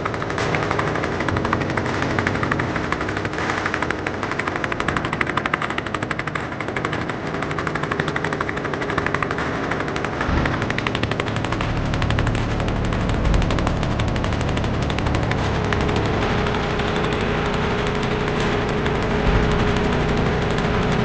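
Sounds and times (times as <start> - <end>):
boat engine knocking: 0.0 - 21.0.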